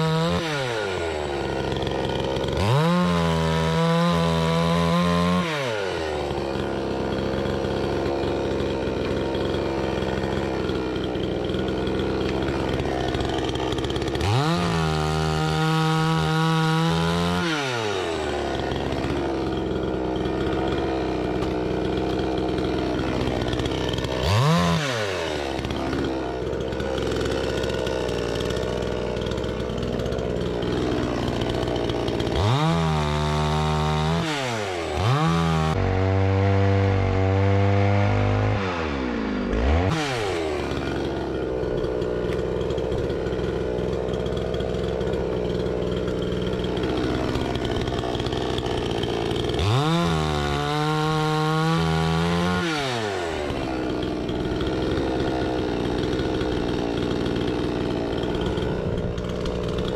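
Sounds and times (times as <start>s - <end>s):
chainsaw cutting wood: 0.0s - 59.9s
chainsaw idling and revving: 0.0s - 59.9s.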